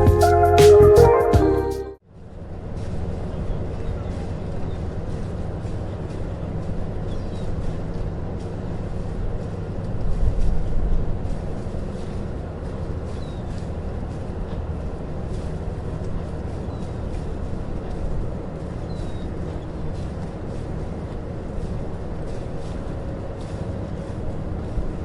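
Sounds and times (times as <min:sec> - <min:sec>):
steady low rumble: 0:02.3 - 0:25.0.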